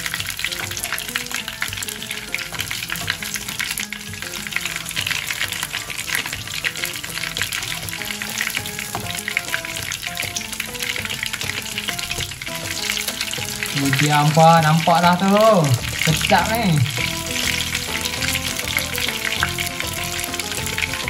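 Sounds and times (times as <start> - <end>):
hot oil sizzling and popping: 0.0 - 21.0.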